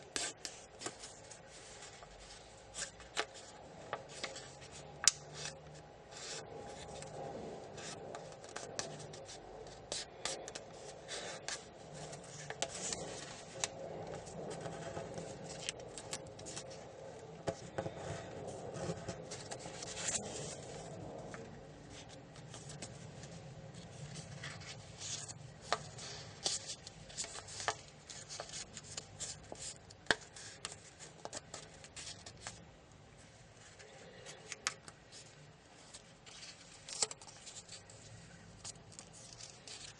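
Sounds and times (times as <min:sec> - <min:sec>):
crisp paper crackles: 0:00.1 - 0:32.6, 0:33.2 - 0:39.9.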